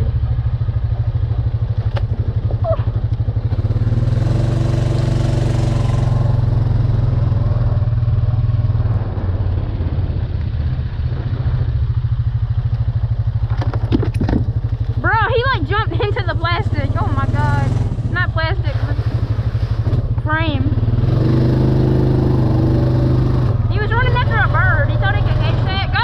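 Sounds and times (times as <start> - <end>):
atv engine revving: 0.0 - 26.0.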